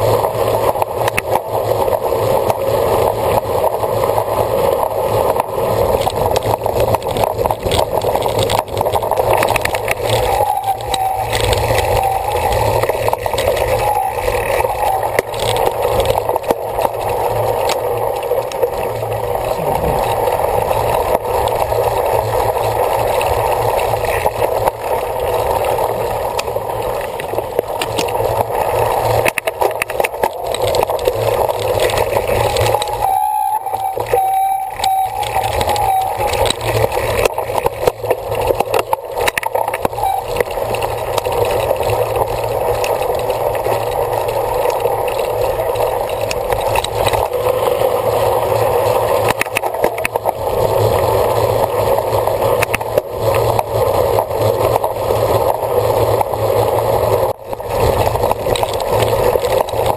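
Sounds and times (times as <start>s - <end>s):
bike rattling and knocking: 0.0s - 59.9s
wind and tyre noise: 0.0s - 59.9s.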